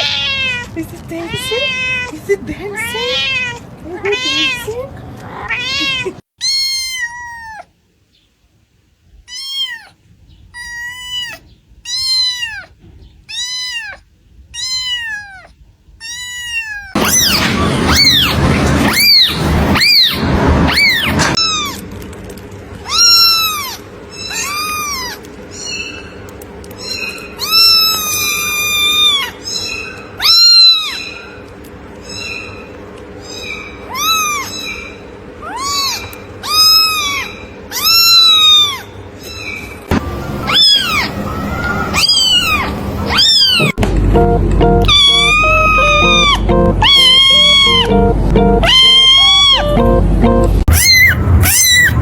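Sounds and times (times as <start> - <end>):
cat meowing: 0.0 - 7.8, 9.1 - 21.8, 22.8 - 26.1, 26.8 - 31.4, 33.2 - 43.8, 44.8 - 49.9, 50.6 - 52.0.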